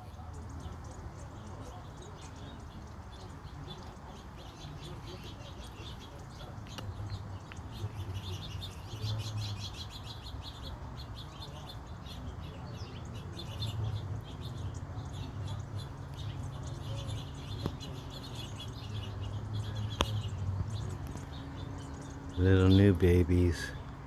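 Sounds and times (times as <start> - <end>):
fledgling birds chirping: 0.0 - 24.0.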